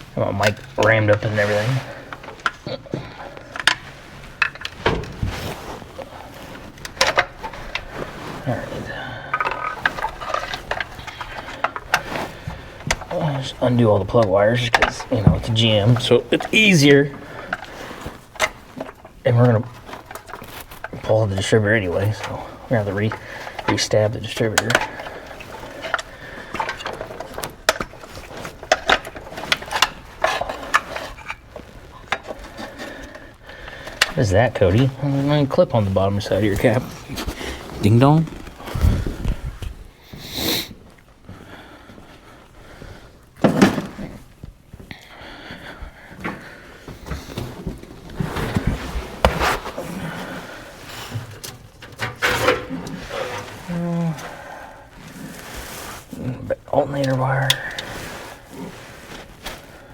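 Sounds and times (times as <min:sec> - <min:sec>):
hand tools and metal parts clinking: 0:00.0 - 0:38.2, 0:47.0 - 0:59.6
short scrapes and rattles: 0:00.0 - 0:40.7, 0:46.5 - 0:59.9.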